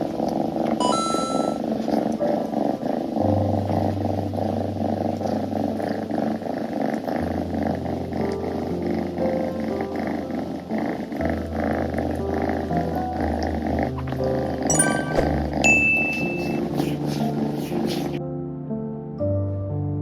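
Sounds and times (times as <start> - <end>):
kitten purring: 0.0 - 14.7, 15.3 - 18.2.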